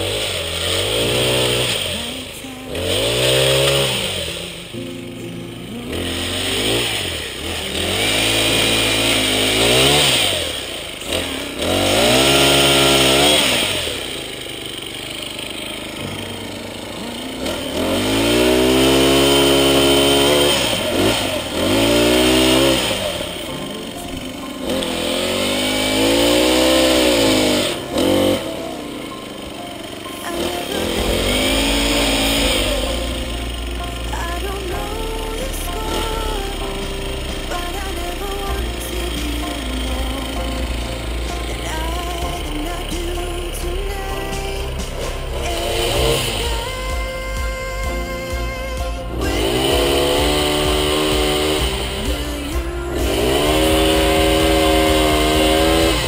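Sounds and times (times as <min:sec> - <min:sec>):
pole saw engine revving: 0:00.0 - 0:56.0.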